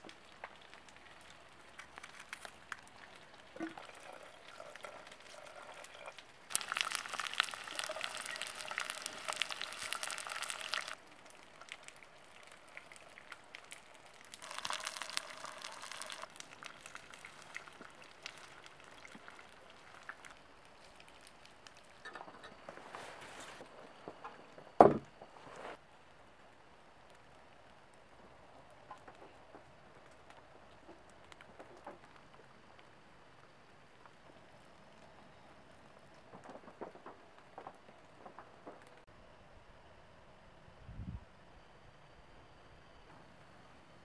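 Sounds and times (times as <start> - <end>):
rain pattering and dripping: 0.0 - 22.1, 25.8 - 39.1.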